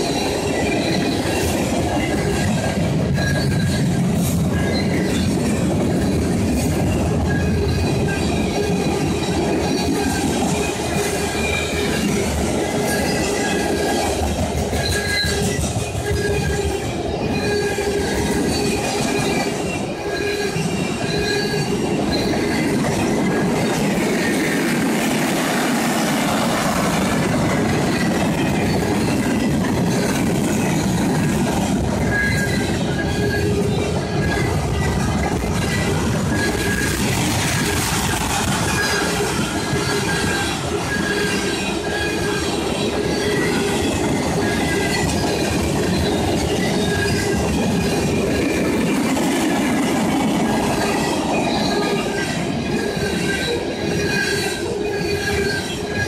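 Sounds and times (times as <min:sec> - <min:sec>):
high wheel squeals: 0:00.0 - 0:56.0
train wheels rumbling on rail: 0:00.0 - 0:56.0
wheel clickety-clack: 0:00.0 - 0:56.0.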